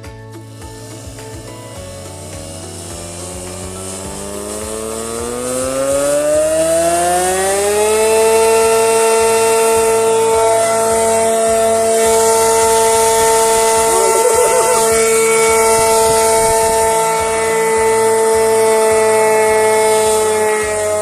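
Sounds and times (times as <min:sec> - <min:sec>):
air raid siren wailing: 0:02.2 - 0:21.0.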